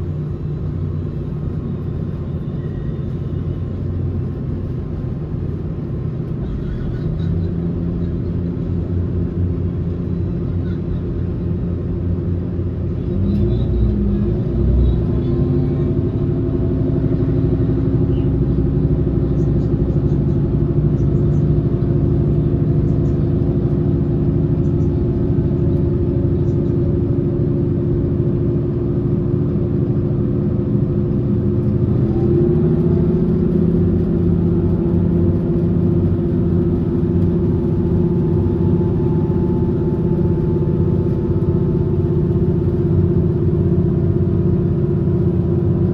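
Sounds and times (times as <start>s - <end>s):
train rumbling in motion: 0.0s - 45.9s.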